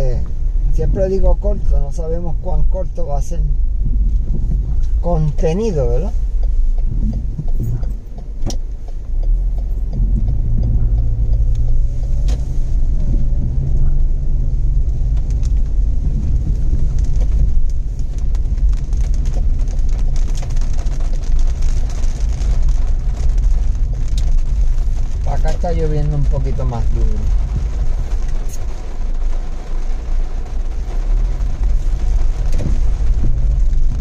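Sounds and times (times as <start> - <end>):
car engine and road rumble: 0.0 - 34.0
rain and wet tyres hiss: 0.0 - 34.0.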